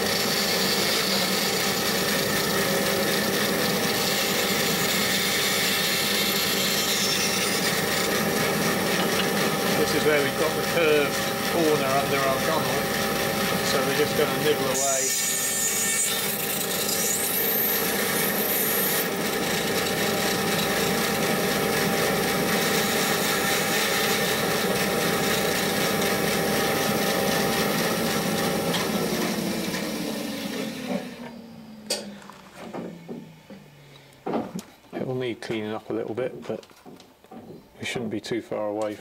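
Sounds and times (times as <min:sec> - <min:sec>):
bandsaw cutting wood: 0:00.0 - 0:31.4.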